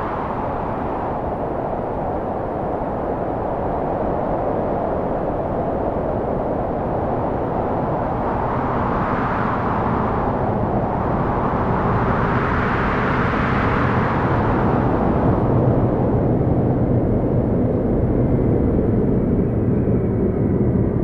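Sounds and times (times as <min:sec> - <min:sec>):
steady rushing roar: 0:00.0 - 0:21.0.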